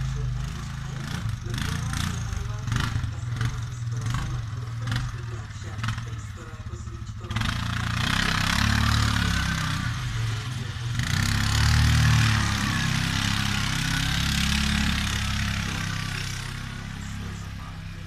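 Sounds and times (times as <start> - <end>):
atv engine revving under load: 0.0 - 18.0
snow scraped by plow blade: 0.0 - 18.0.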